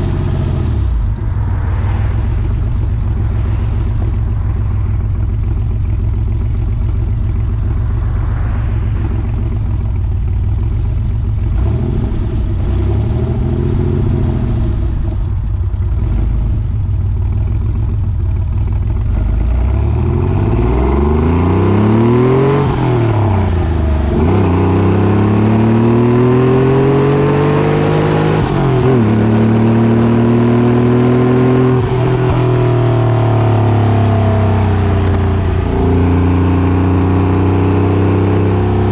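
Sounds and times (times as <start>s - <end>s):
car engine revving: 0.0s - 17.0s, 19.0s - 38.9s.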